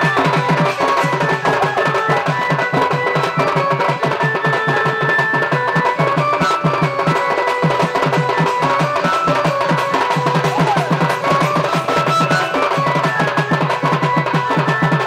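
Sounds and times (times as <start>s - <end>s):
barrel drum beating: 0.0s - 15.0s
held melodic notes: 0.0s - 15.0s.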